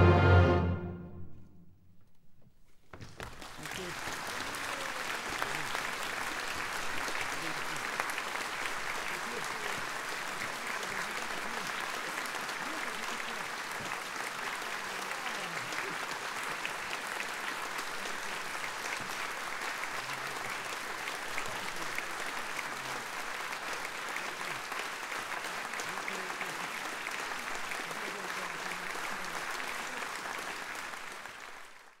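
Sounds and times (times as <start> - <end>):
audience applauding: 3.0 - 32.0.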